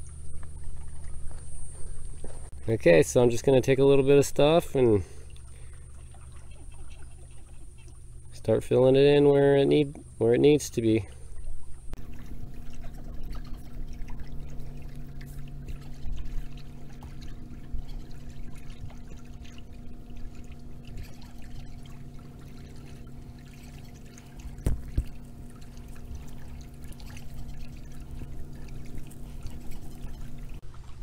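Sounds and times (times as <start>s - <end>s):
steady low hum: 0.0s - 31.0s
water sloshing and trickling: 0.0s - 31.0s.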